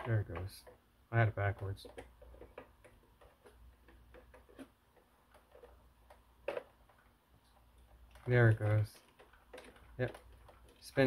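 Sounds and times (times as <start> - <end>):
roller brush ticking and clicking: 0.0 - 11.0.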